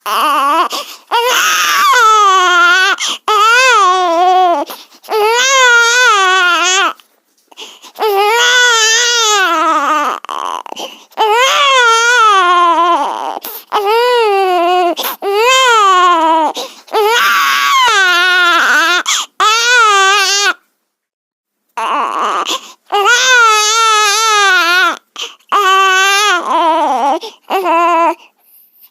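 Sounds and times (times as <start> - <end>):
baby crying: 0.0 - 20.6, 21.8 - 28.4.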